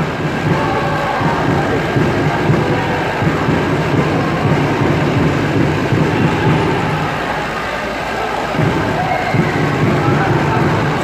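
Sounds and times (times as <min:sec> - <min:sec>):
crowd murmur in a hall: 0:00.0 - 0:11.0.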